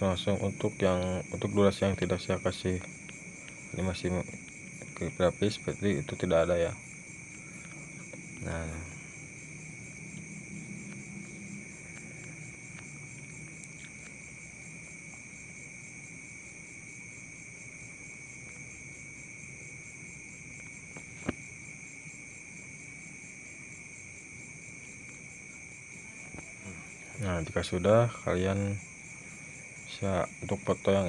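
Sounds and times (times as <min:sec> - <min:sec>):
insect trilling: 0:00.0 - 0:31.0.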